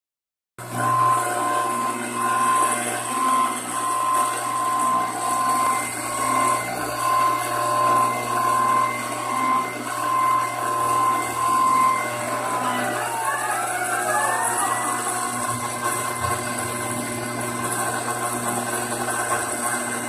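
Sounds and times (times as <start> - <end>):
router spindle cutting metal: 0.6 - 20.0.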